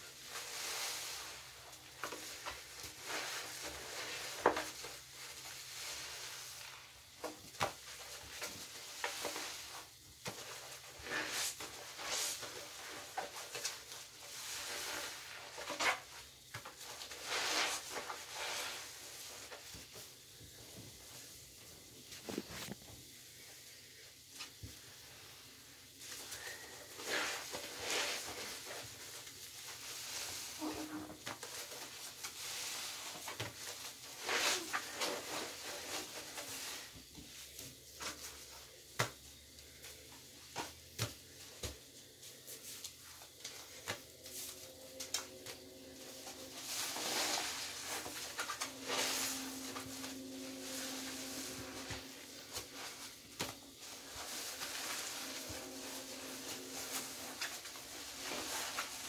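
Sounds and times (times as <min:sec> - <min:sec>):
foam squelching and crackling: 0:00.0 - 0:20.3, 0:25.9 - 0:38.5, 0:43.3 - 0:59.0.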